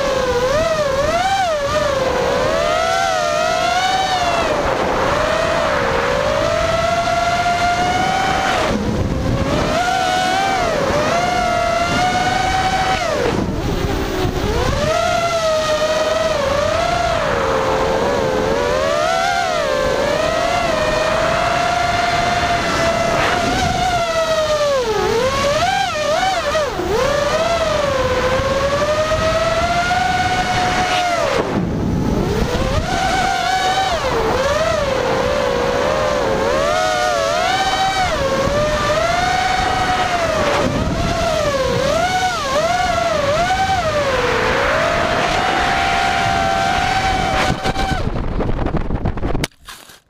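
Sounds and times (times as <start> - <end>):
quadcopter motors whining: 0.0 - 48.8.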